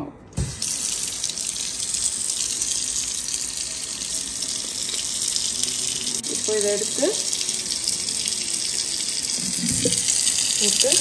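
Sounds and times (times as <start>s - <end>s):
faucet running into sink: 0.4s - 11.0s.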